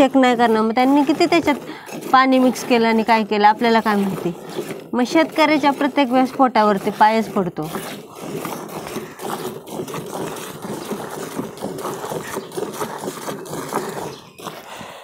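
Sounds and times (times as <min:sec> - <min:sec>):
milk squirting into metal pail: 0:00.0 - 0:14.9.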